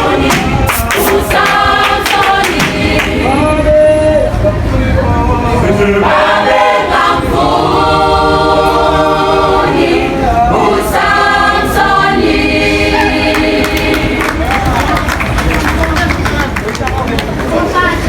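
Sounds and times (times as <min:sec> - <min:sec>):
choir singing: 0:00.0 - 0:14.5.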